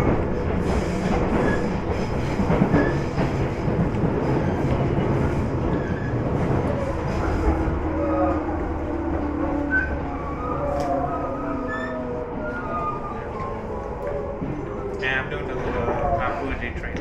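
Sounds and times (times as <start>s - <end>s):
train wheels and motors rumbling: 0.0s - 17.0s.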